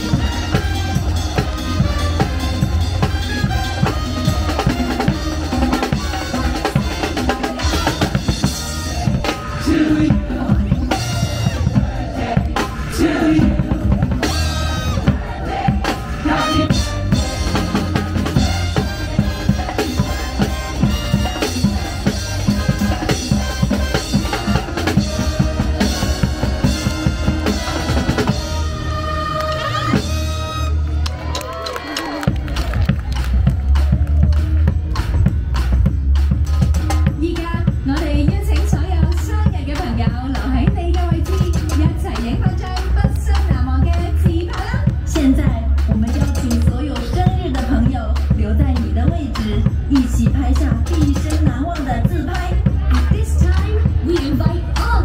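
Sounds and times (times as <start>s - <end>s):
show music with driving drum beat: 0.0s - 55.0s.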